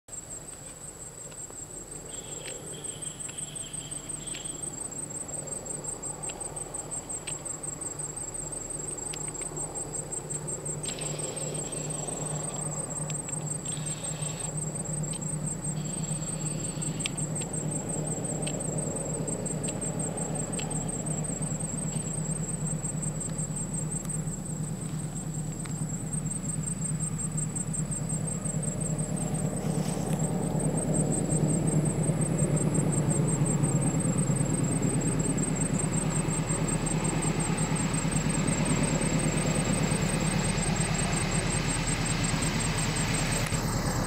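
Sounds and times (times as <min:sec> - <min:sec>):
insect pulsing trill: 0:00.1 - 0:44.0
diesel train humming: 0:01.1 - 0:44.0.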